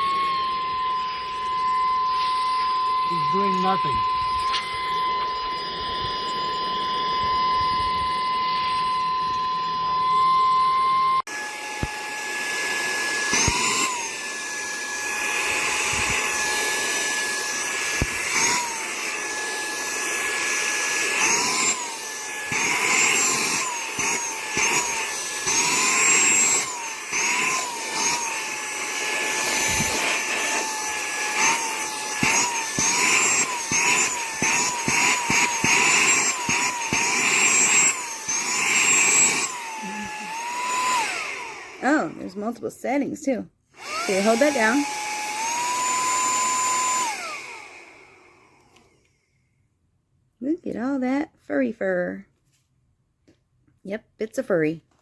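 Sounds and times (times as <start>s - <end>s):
handheld vacuum motor whine: 0.0s - 43.0s, 43.8s - 49.2s.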